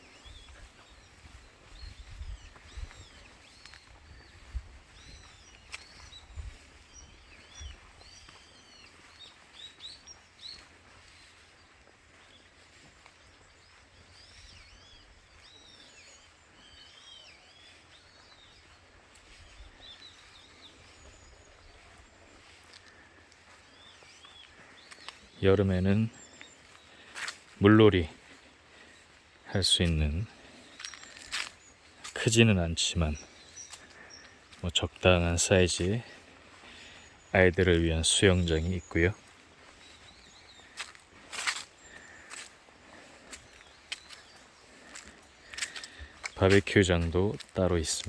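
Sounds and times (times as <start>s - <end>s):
faint outdoor hiss: 0.0s - 48.0s
small birds chirping: 0.0s - 48.0s.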